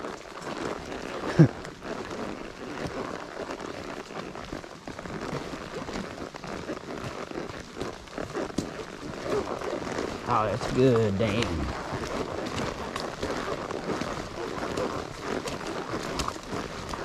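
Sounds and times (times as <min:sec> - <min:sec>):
hooves crackling through brush: 0:00.0 - 0:17.0.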